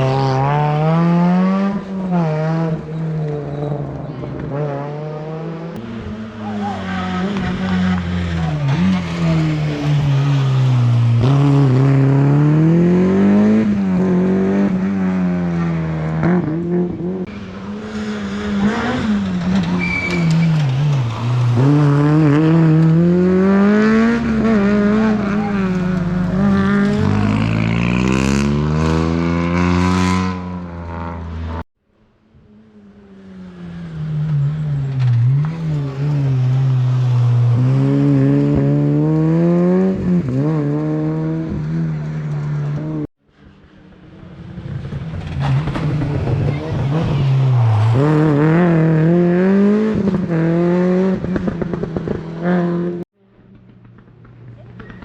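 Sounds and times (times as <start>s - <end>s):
rally car engine revving: 0.0s - 31.6s, 32.6s - 43.1s, 44.0s - 53.1s.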